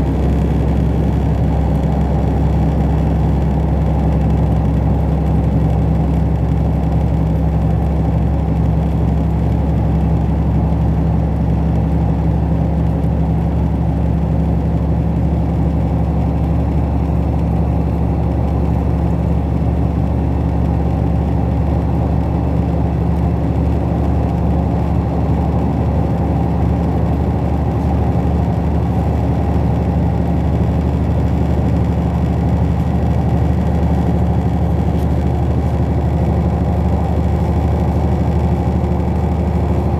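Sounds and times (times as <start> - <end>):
train running inside carriage: 0.0 - 39.9.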